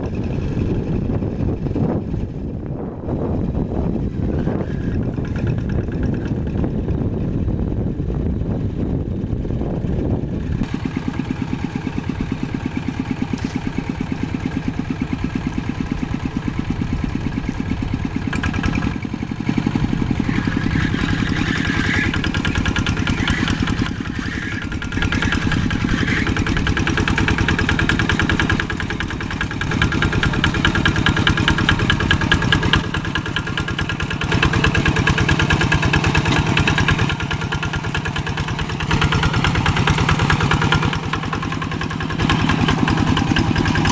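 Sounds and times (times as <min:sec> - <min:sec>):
old tractor engine running: 0:00.0 - 0:43.9.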